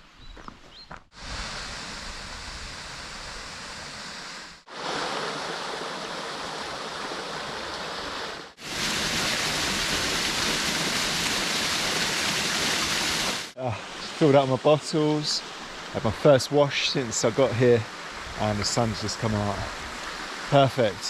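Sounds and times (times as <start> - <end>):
stream water running and splashing: 2.9 - 21.0.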